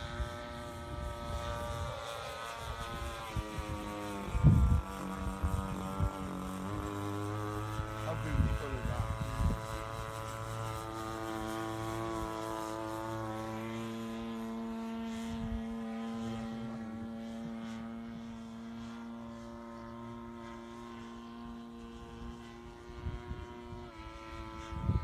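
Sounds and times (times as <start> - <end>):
model airplane engine droning: 0.0 - 25.0.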